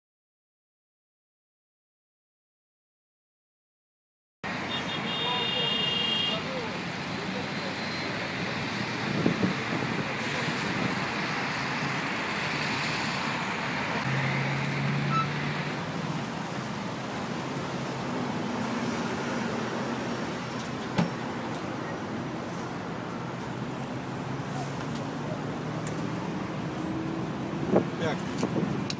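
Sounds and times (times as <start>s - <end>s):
road and traffic noise: 4.4s - 28.9s.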